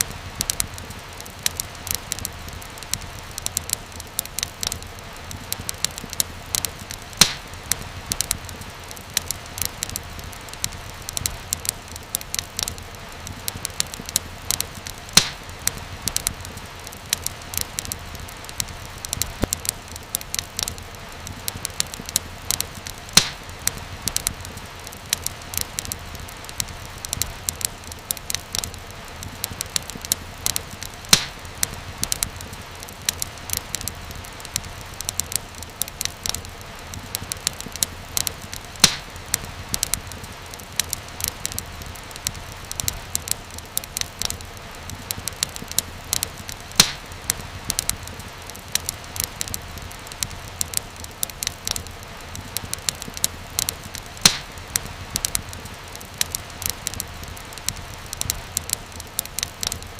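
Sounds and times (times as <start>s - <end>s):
low rumble of flame: 0.0s - 59.9s
sharp pops and snaps: 0.0s - 59.9s
wood fire crackling: 0.0s - 59.9s.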